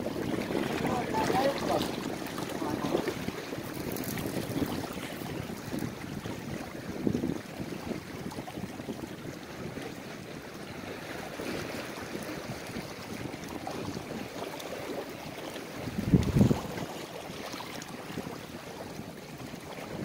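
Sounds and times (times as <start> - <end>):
sea noise: 0.0 - 20.0
wind buffeting microphone: 0.0 - 20.0.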